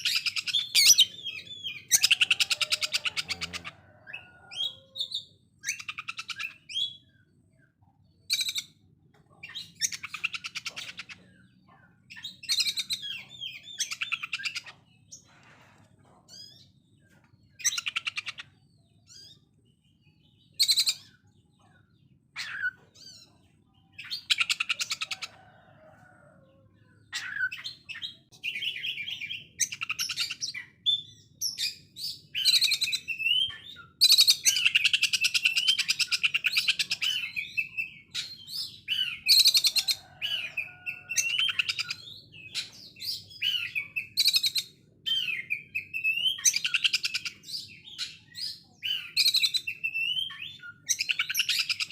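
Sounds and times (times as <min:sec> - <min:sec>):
bird singing rattling song: 0:00.0 - 0:25.5, 0:27.0 - 0:51.9.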